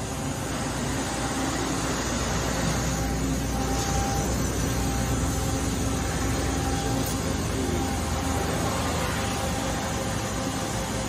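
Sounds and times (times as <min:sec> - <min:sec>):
faint steady tones: 0:00.0 - 0:11.0
machine low hum: 0:00.0 - 0:11.0.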